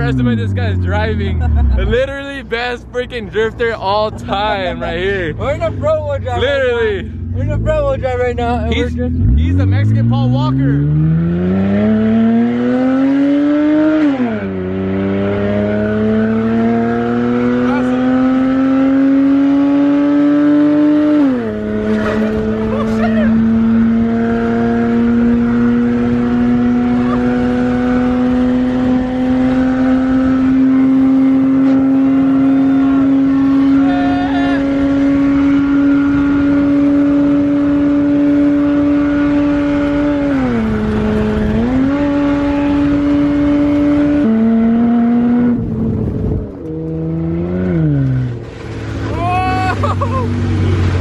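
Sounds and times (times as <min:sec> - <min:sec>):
car engine at high revs: 0:00.0 - 0:51.0.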